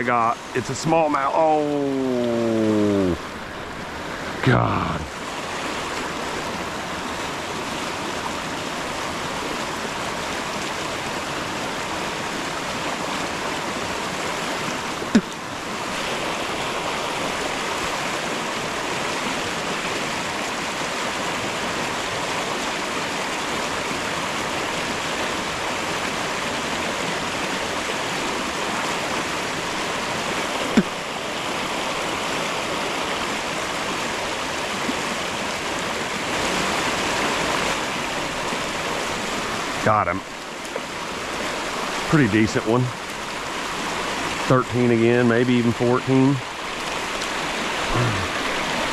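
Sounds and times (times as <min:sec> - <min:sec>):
creek water rushing over rocks: 0:00.0 - 0:48.9.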